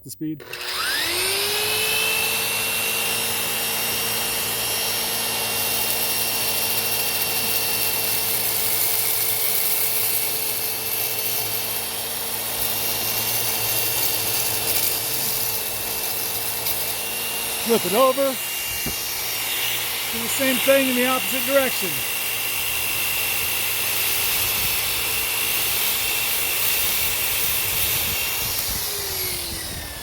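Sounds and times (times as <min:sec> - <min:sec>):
rotary buffer whining: 0:00.4 - 0:30.0.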